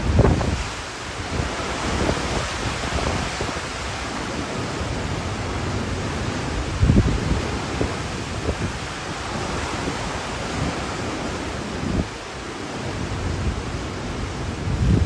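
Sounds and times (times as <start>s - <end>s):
hurricane wind rushing: 0.0s - 15.0s
wind gusts buffeting microphone: 0.0s - 15.0s.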